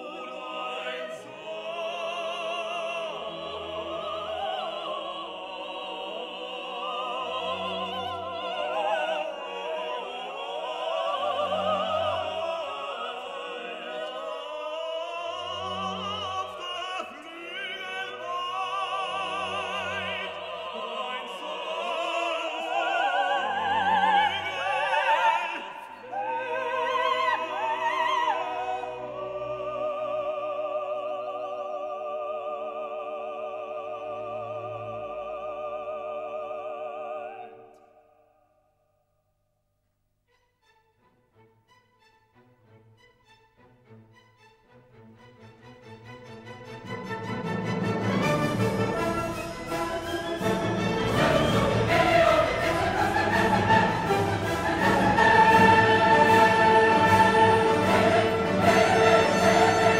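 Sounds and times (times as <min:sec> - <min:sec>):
operatic singing with accompaniment: 0:00.0 - 0:38.2, 0:44.9 - 0:59.9.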